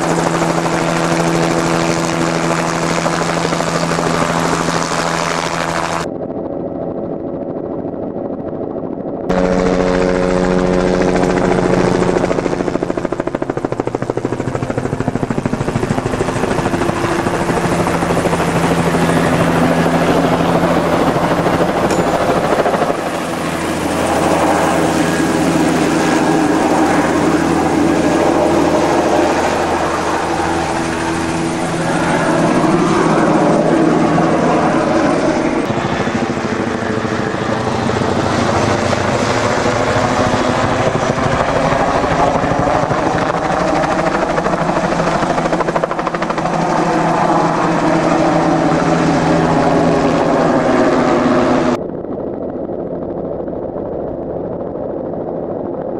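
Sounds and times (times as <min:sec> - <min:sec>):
helicopter flying overhead: 0:00.0 - 0:55.9.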